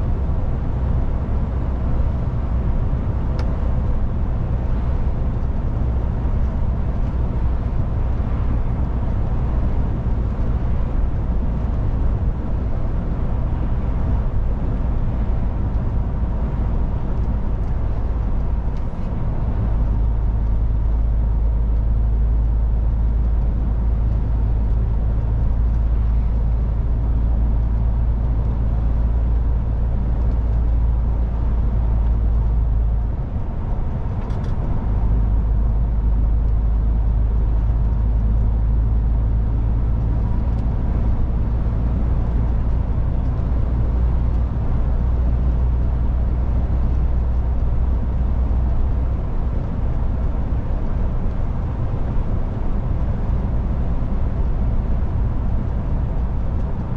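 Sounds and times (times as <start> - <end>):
diesel truck engine droning: 0.0 - 56.9
low road rumble: 0.0 - 56.9.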